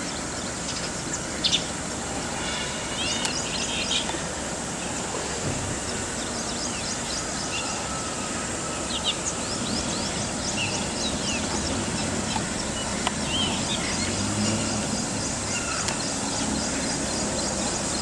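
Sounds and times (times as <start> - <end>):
outdoor background rumble: 0.0 - 18.0
small birds chirping: 0.0 - 18.0.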